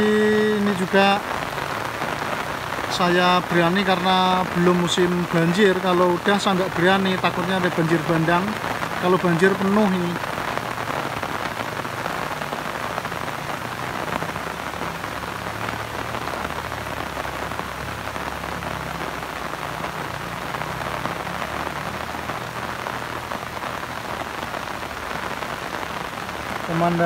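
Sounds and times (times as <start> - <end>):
rain on grass and stones: 0.0 - 27.0.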